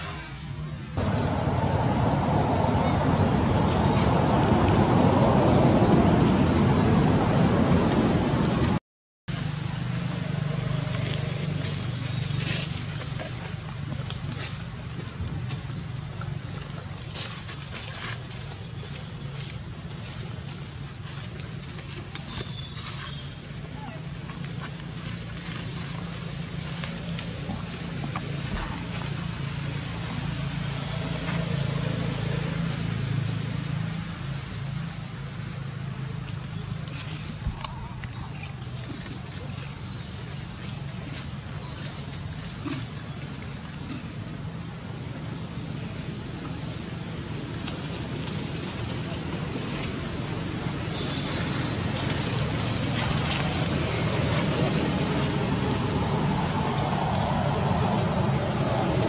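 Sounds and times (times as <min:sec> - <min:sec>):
engine humming: 0:00.0 - 0:59.0
outdoor background noise: 0:00.0 - 0:59.0.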